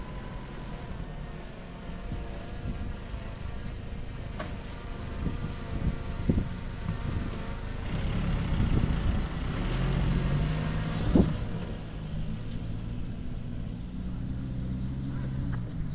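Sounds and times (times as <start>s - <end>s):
heavy machinery diesel engine: 0.0s - 15.9s.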